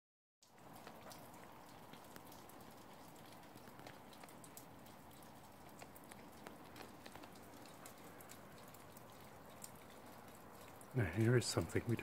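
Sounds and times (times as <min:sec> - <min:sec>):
faint irregular ticks: 0:00.4 - 0:12.0
faint outdoor hiss: 0:00.4 - 0:12.0.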